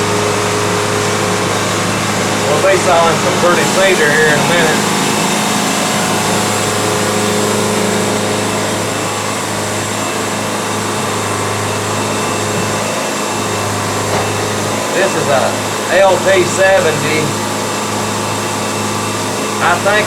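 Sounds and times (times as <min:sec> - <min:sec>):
sawmill machine hum: 0:00.0 - 0:20.0.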